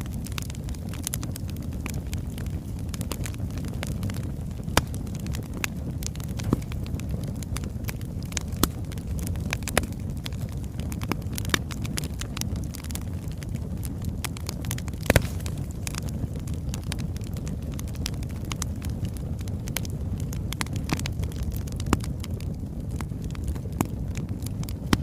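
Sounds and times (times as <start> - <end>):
low fire rumble: 0.0 - 25.0
wood fire crackling and popping: 0.0 - 25.0.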